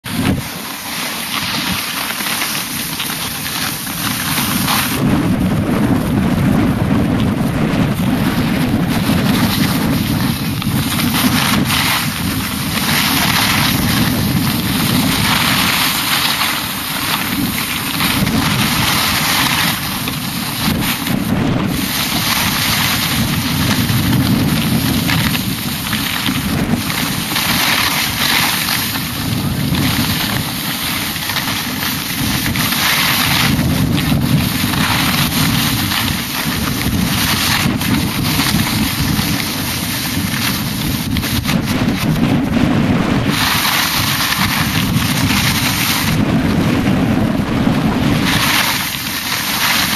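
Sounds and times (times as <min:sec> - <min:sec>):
skis scraping on packed snow: 0:00.0 - 0:49.9
wind buffeting microphone: 0:00.0 - 0:49.9.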